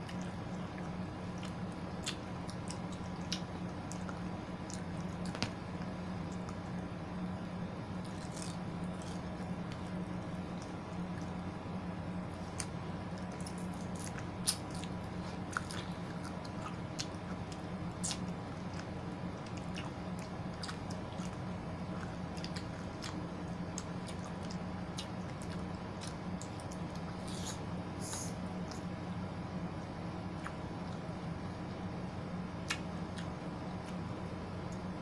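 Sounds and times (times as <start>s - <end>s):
biting and chewing fruit: 0.0s - 29.0s, 32.6s - 34.9s
steady low hum: 0.0s - 35.0s.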